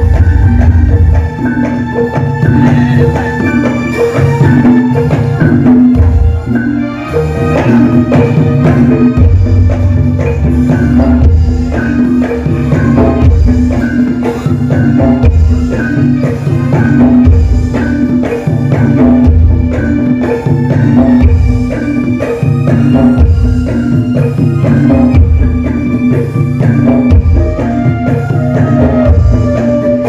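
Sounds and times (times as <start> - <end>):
hand drums beating: 0.0 - 30.0
keyboard: 0.0 - 30.0.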